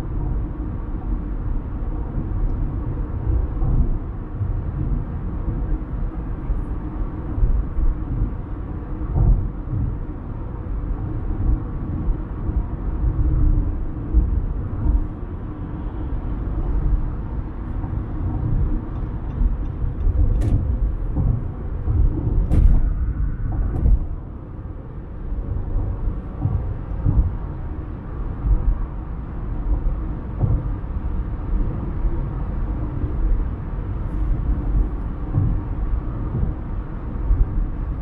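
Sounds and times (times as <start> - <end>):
car road and tyre noise: 0.0 - 38.0.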